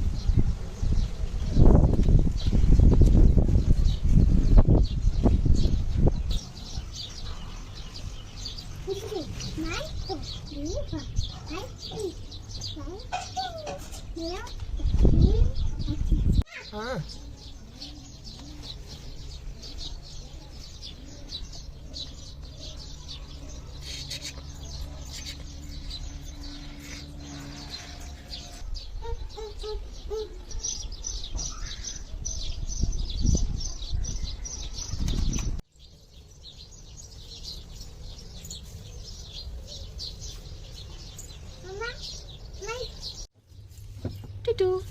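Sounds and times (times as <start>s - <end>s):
high-pitched bird chirping: 3.7s - 43.3s.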